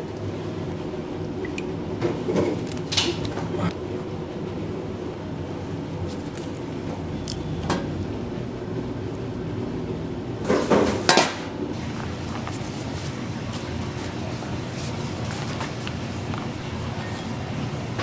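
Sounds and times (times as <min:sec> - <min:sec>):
commercial kitchen hum: 0:00.0 - 0:18.0.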